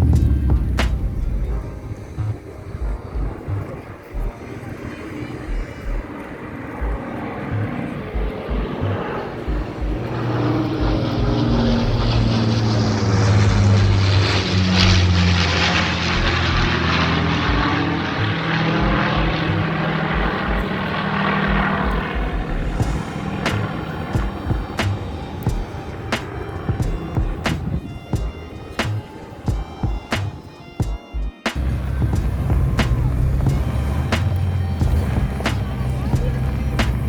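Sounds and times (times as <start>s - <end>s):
engine drone passing by: 0.0s - 30.8s, 31.6s - 37.0s.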